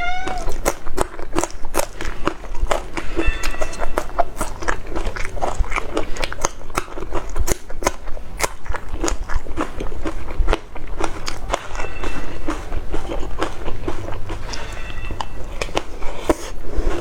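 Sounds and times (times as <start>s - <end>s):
person crunching and chewing: 0.0s - 17.0s.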